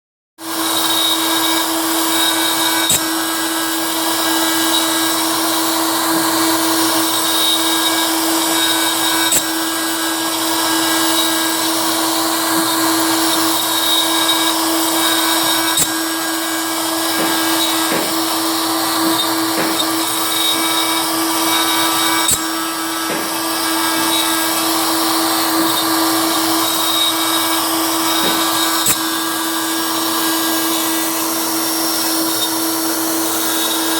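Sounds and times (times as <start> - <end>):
machine tool whine and whirr: 0.4 - 33.9.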